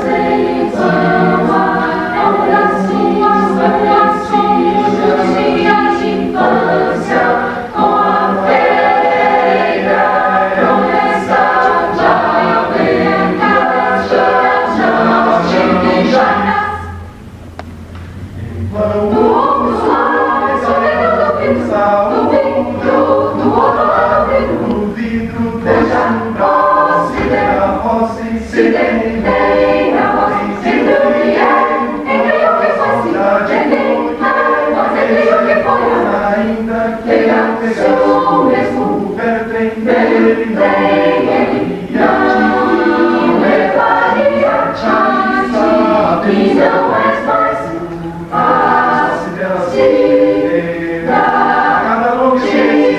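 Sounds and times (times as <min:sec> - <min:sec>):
choir singing in parts: 0:00.0 - 0:52.9.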